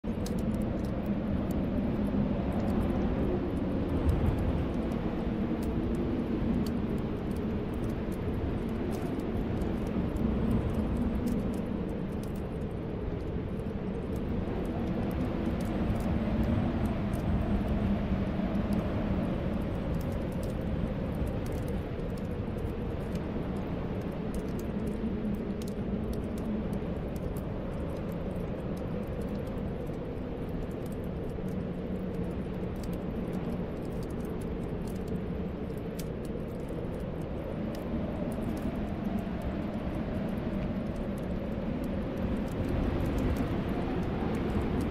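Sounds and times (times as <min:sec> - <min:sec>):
fireplace fire crackling: 0:00.0 - 0:44.9
wind blowing with low whistle: 0:00.0 - 0:44.9.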